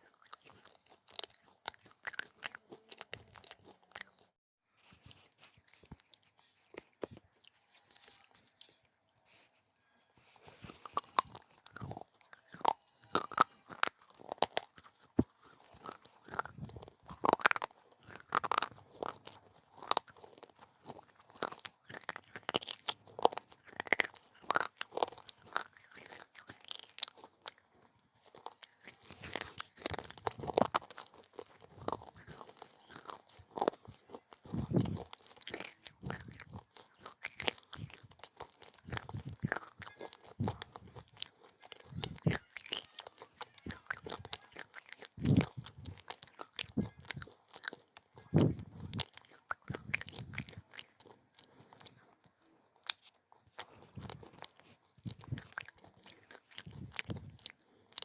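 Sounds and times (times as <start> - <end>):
crunching hard clay pieces: 10.4 - 52.1, 52.8 - 58.0.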